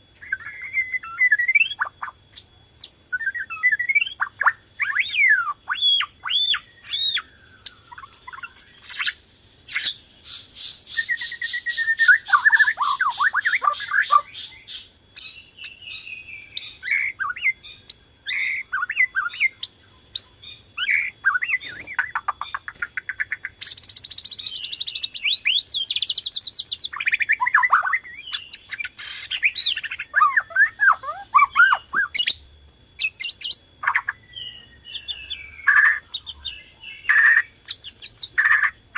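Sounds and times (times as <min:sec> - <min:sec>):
songbird singing whistled trills: 0:00.0 - 0:38.8.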